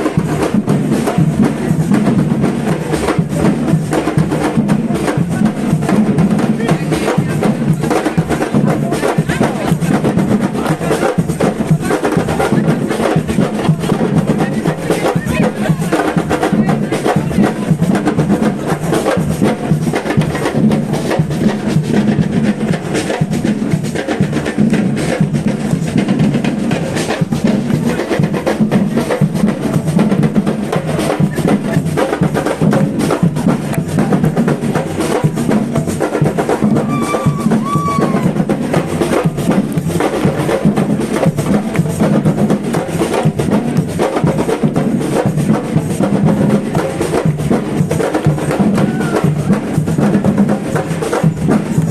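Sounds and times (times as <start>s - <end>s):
drums playing fast rhythm: 0.0s - 51.9s.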